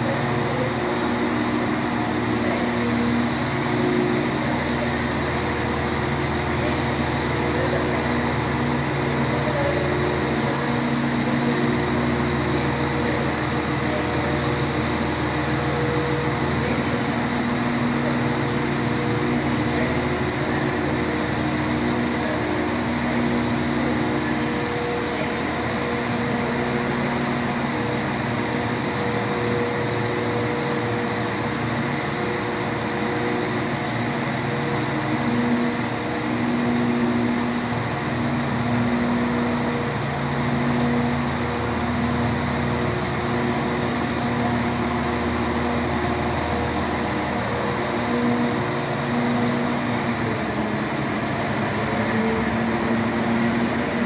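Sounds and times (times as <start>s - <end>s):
constant background noise: 0.0s - 54.0s
diesel train idling hum: 0.0s - 54.0s.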